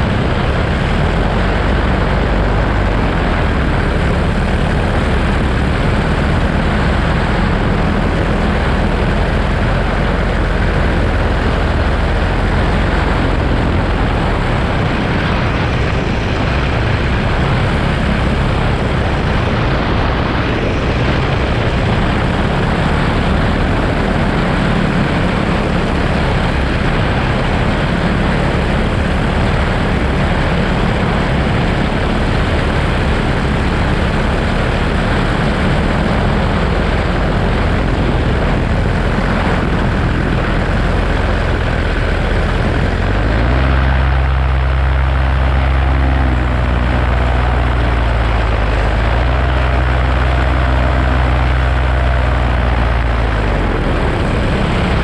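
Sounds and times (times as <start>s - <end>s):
paramotor engine drone: 0.0s - 55.0s.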